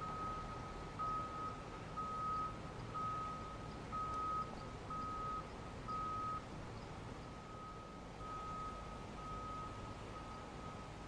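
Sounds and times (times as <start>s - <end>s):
reversing alarm beeping: 0.0s - 6.4s, 7.5s - 10.9s.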